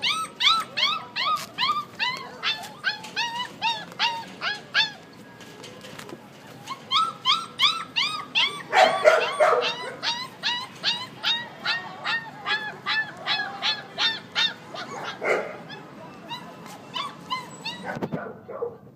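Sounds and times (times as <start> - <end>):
puppy yelping and whimpering: 0.0 - 5.0, 6.6 - 18.4.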